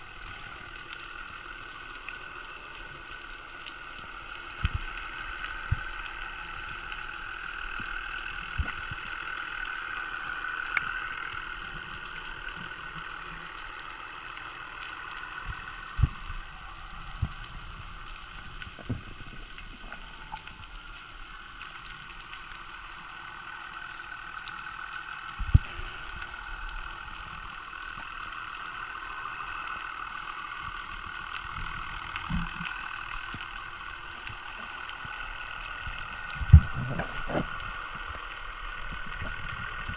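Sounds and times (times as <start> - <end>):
muffled underwater drone: 0.0 - 39.9.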